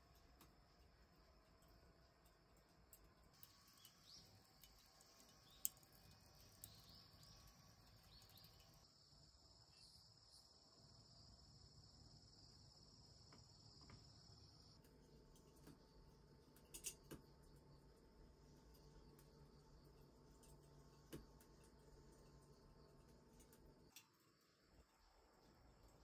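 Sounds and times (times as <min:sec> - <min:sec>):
insects chirring: 0:00.1 - 0:26.0.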